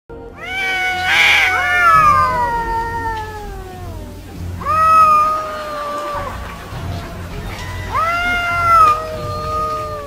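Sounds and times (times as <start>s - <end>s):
cat yowling: 0.3s - 6.6s, 7.5s - 10.0s.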